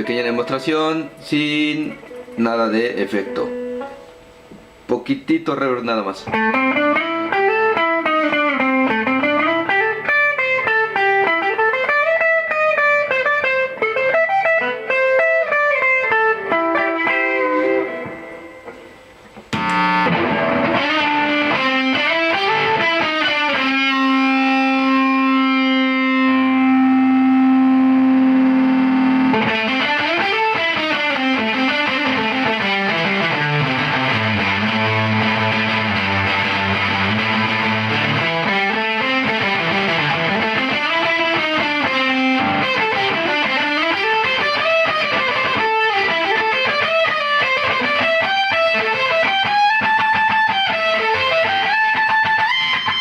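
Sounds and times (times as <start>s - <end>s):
electric guitar melody: 0.0s - 4.9s, 6.0s - 53.0s
fuzzed electric guitar: 0.0s - 53.0s.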